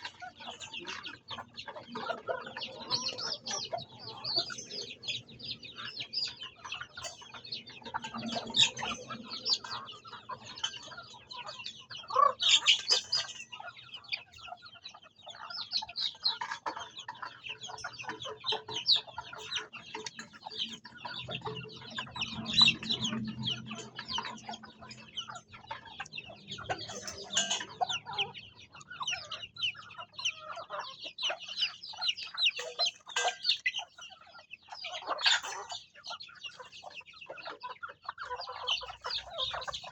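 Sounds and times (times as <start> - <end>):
chickens clucking: 0.0 - 39.9
chicks chirping: 0.0 - 39.9.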